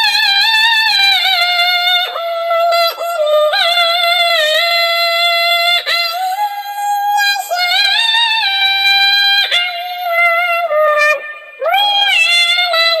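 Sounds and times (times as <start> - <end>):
synthetic pitch-corrected singing: 0.0 - 13.0.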